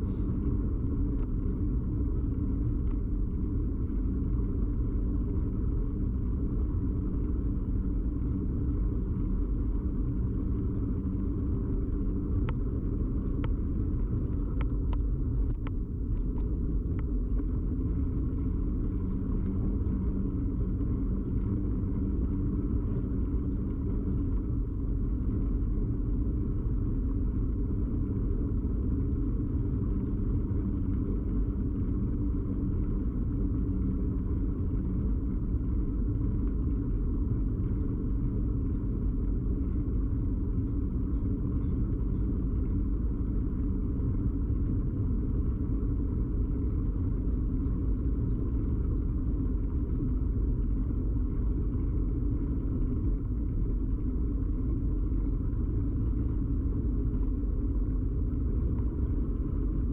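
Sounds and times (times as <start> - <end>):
bicycle rumble and rattle: 0.0 - 59.9
wind: 0.0 - 59.9.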